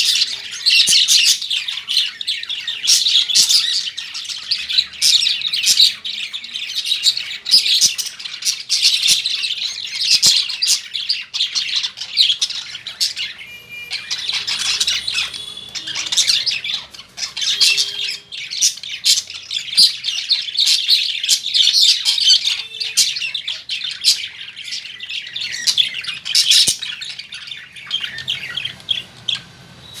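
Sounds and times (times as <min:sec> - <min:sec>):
lovebirds chirping and squawking: 0:00.0 - 0:30.0.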